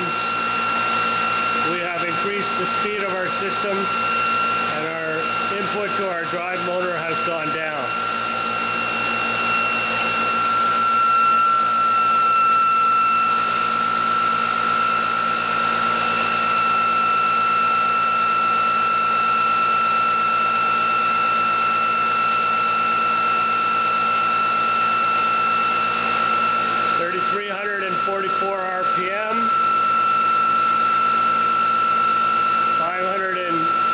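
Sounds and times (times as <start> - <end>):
electric motor high whine: 0.0 - 33.9.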